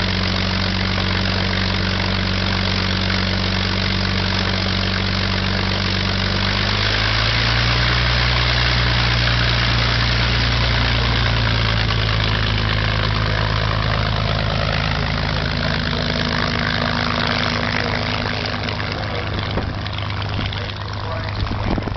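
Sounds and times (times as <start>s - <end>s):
aircraft engine rumbling: 0.0s - 21.9s.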